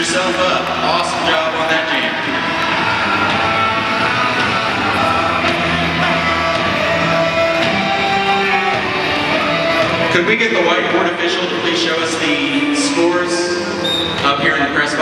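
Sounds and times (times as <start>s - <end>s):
rock music over sound system: 0.0s - 15.0s.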